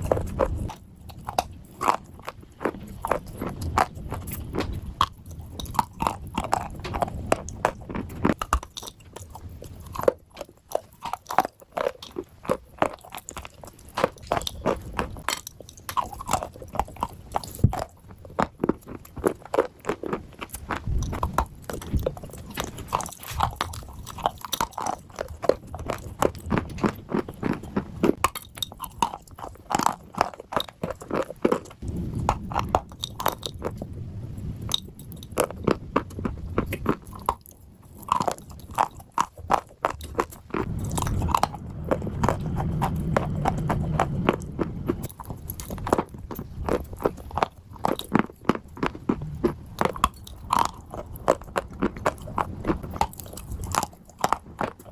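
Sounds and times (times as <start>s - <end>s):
person chewing crunchy clay: 0.0s - 54.9s.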